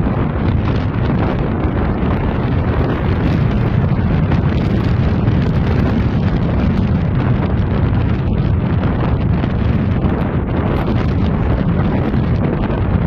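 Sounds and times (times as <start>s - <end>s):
car road and engine noise: 0.0s - 13.0s
wind buffeting microphone: 0.0s - 13.0s.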